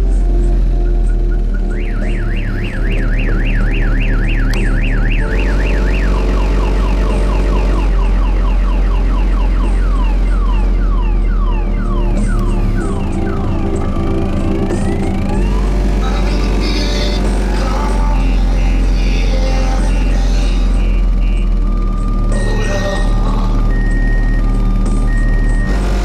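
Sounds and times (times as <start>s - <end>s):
heavy bass music: 0.0s - 26.0s
car alarm siren: 0.3s - 26.0s.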